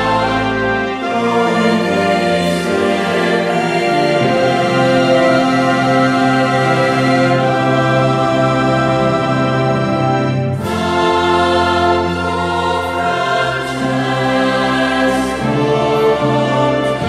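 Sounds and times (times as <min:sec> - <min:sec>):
choir singing slow chords: 0:00.0 - 0:17.0.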